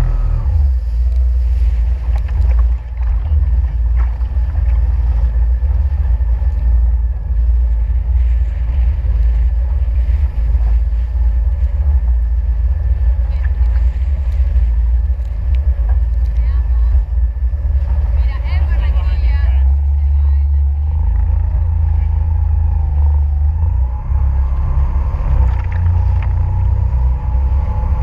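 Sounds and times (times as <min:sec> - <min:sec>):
jet ski engine drone: 0:00.0 - 0:28.0
wind buffeting microphone: 0:00.0 - 0:28.0.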